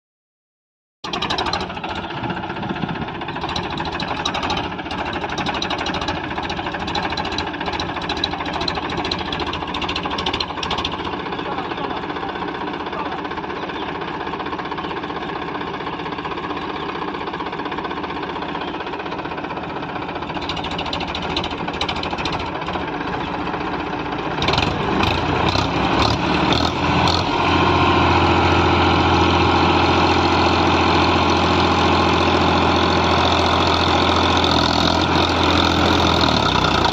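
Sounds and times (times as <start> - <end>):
diesel tractor engine clattering: 1.0 - 36.9.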